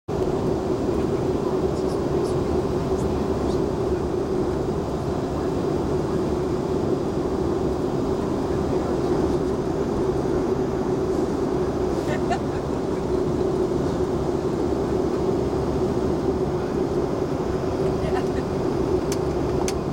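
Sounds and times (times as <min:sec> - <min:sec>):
airliner cabin drone: 0:00.1 - 0:19.9.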